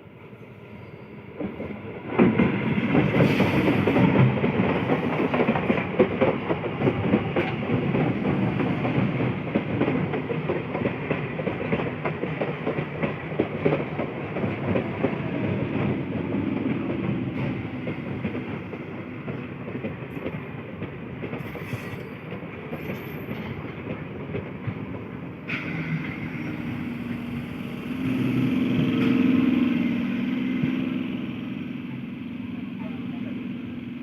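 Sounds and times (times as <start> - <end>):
train wheels clattering on rails: 1.2 - 34.0.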